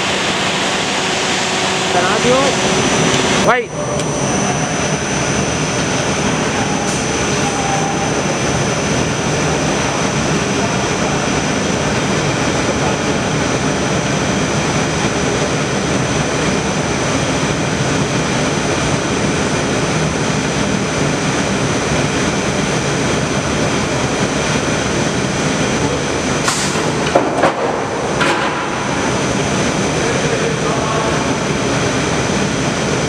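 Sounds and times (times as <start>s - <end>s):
conveyor machinery running: 0.0s - 33.0s.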